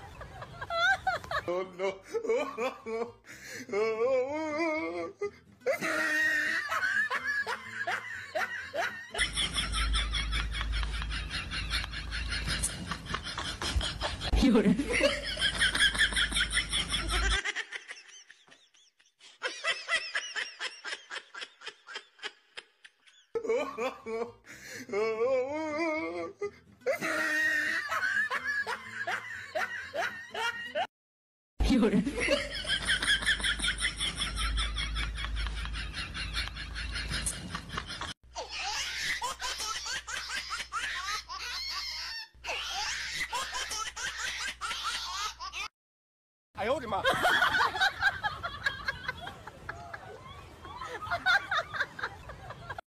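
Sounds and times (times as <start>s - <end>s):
snickering laughter: 0.0s - 30.9s, 31.7s - 45.7s.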